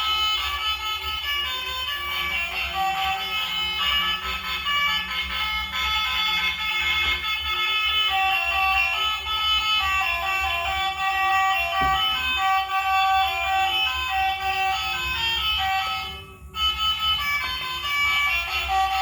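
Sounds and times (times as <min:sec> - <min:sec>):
electronic toy beeping tune: 0:00.0 - 0:19.0.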